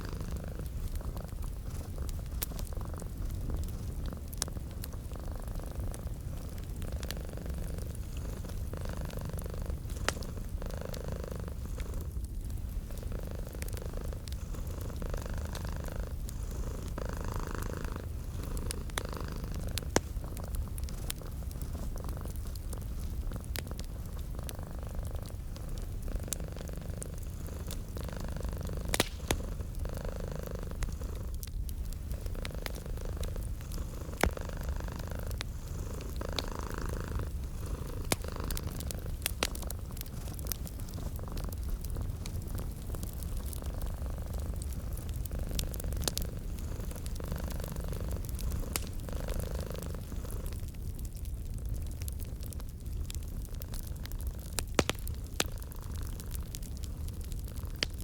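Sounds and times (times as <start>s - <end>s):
cat purring: 0.0s - 58.0s
wood fire crackling and popping: 0.0s - 58.0s.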